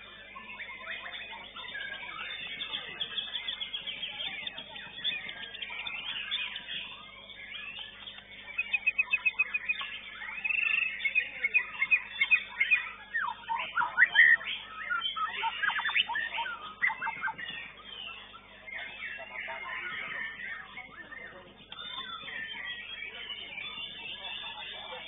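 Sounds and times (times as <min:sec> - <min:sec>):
bird singing varied whistles: 0:00.0 - 0:25.0.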